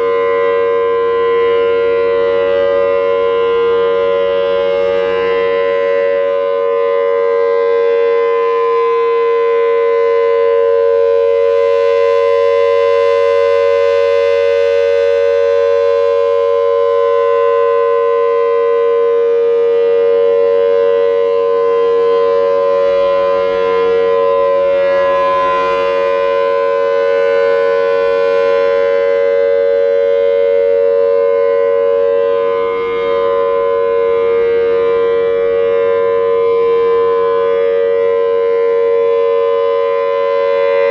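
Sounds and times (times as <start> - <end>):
warning siren two steady pitches: 0.0 - 40.9.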